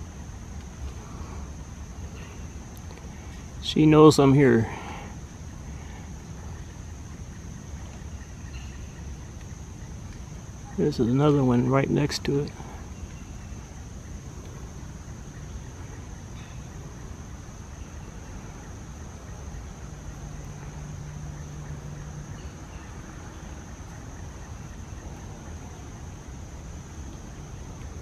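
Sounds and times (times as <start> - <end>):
insect chorus drone: 0.0 - 28.0.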